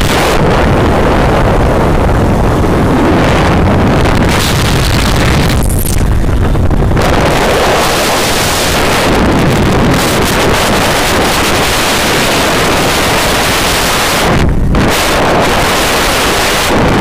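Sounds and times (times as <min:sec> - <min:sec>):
road and vehicle noise: 0:00.0 - 0:17.0
wind buffeting microphone: 0:00.0 - 0:17.0.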